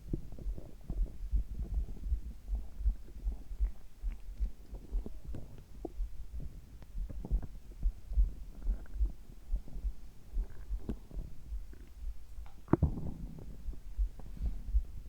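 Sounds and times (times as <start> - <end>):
low heartbeat thumping: 0.0 - 15.0
stomach gurgles: 0.0 - 15.0.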